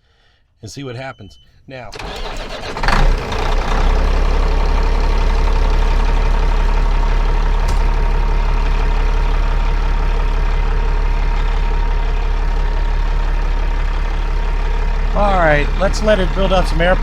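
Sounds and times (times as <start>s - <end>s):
diesel truck engine idling: 1.9s - 17.0s.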